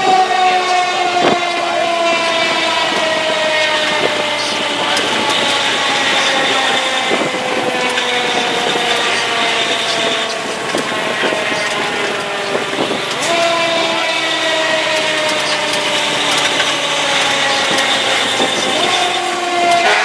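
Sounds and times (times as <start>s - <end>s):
engine and road noise: 0.0s - 20.0s
fire engine siren: 0.0s - 20.0s.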